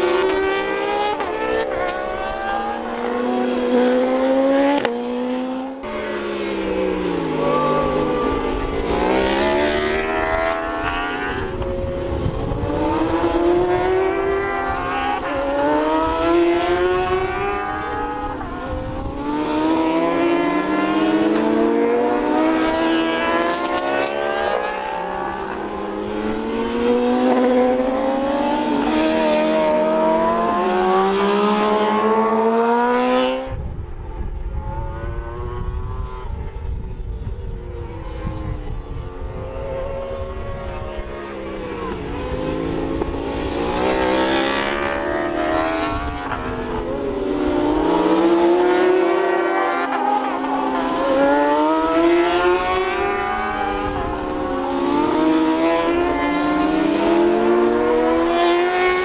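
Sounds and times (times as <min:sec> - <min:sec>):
racing motorcycles at full throttle: 0:00.0 - 0:59.0.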